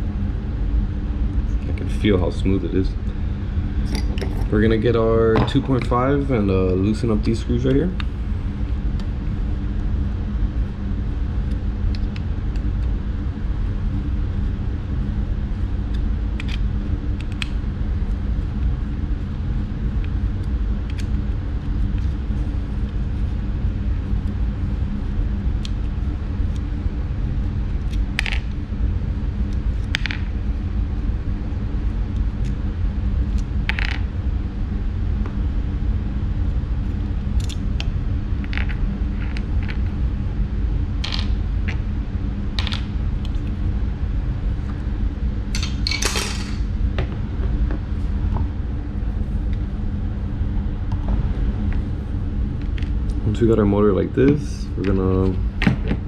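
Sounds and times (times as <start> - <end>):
low rumbling hum: 0.0 - 56.0.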